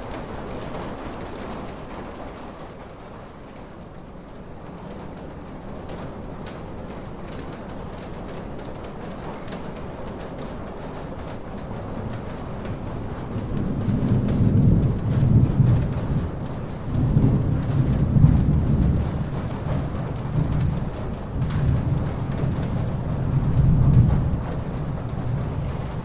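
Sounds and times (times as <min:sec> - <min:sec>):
steady rain: 0:00.0 - 0:26.0
thunder rumbling: 0:05.0 - 0:26.0.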